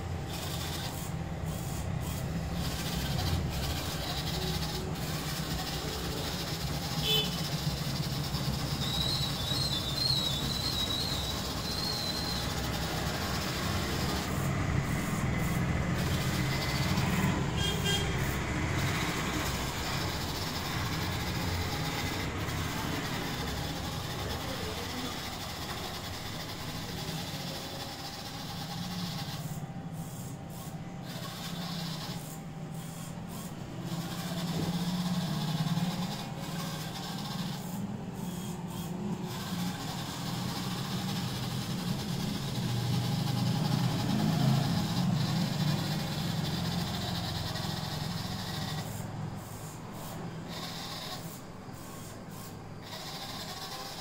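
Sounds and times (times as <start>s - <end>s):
small gear motors whirring: 0.0s - 54.0s.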